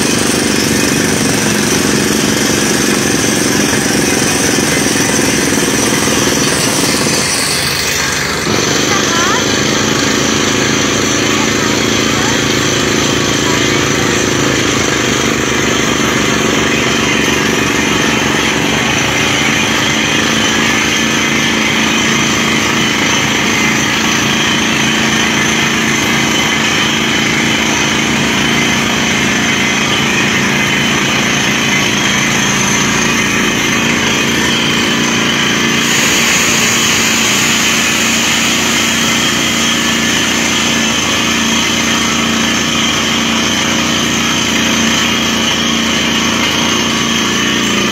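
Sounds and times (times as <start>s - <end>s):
compressed air blasting: 0.0s - 47.9s
drill hammer pulsing: 0.0s - 47.9s
drilling rig engine and compressor: 0.0s - 47.9s.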